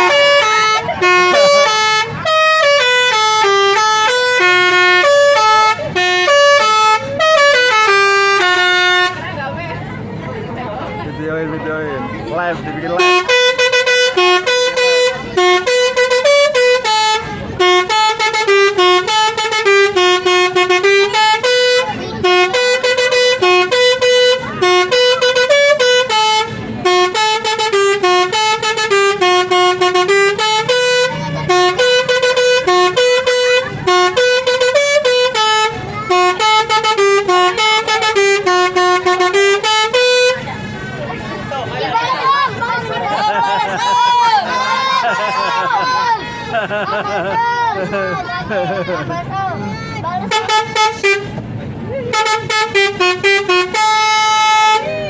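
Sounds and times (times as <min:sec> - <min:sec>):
multi-tone bus air horn melody: 0:00.0 - 0:09.8, 0:12.2 - 0:48.2, 0:50.1 - 0:55.0.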